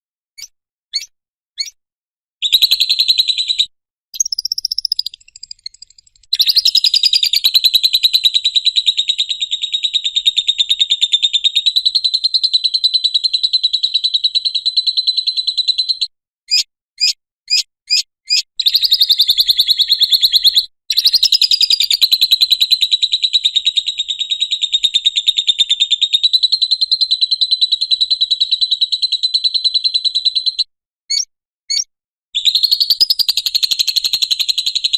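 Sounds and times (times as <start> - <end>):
bird chirps: 0.4 - 1.8, 2.4 - 34.9
lovebird high-pitched chattering: 0.4 - 1.8, 2.4 - 34.9.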